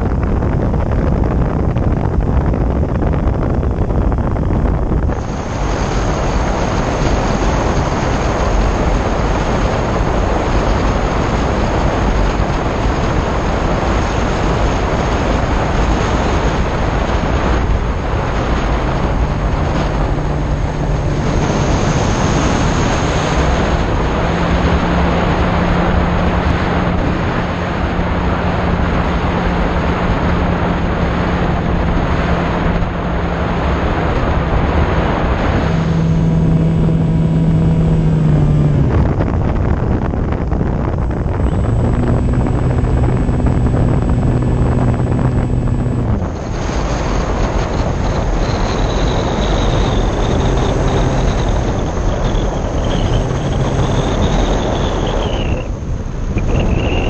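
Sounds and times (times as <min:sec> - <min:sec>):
air rushing over microphone: 0:00.0 - 0:57.0
low steady hum: 0:00.0 - 0:57.0
electric motor and propeller: 0:04.9 - 0:57.0.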